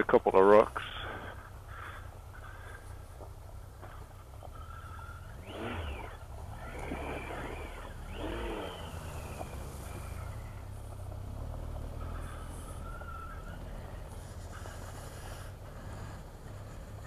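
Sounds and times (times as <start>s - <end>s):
motorcycle engine low rumble: 0.0s - 17.0s.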